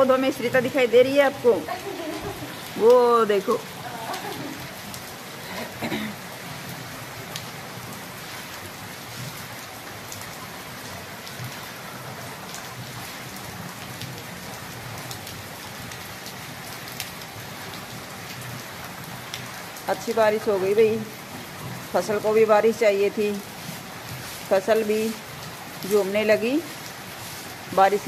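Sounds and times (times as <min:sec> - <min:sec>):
heavy rain on paving and foliage: 0:00.0 - 0:28.0
sharp raindrops striking close: 0:00.0 - 0:28.0.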